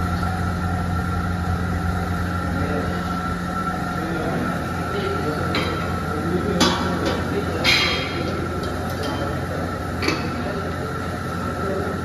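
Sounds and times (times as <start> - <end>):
electric fans humming: 0.0 - 12.0.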